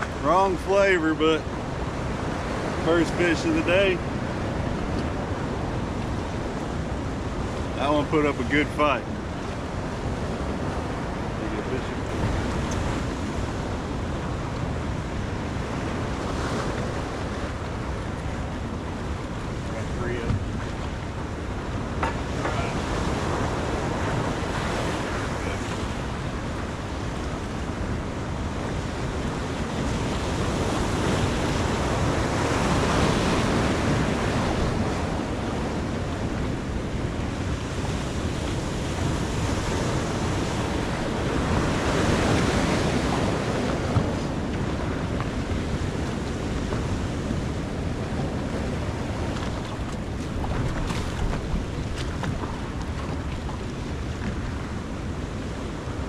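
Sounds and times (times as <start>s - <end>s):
surf washing: 0.0s - 56.0s
wind buffeting microphone: 0.0s - 56.0s.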